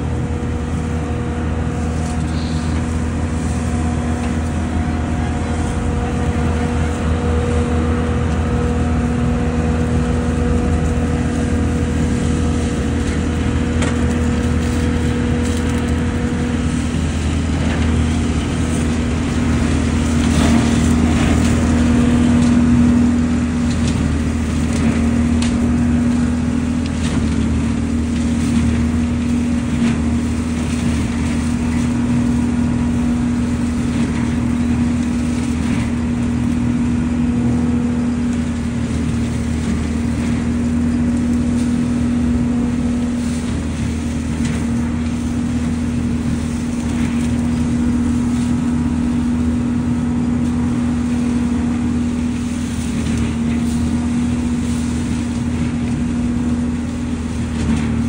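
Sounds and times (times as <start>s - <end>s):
dry leaves rustling in a hose: 0.0s - 58.0s
leaf vacuum running: 0.0s - 58.0s.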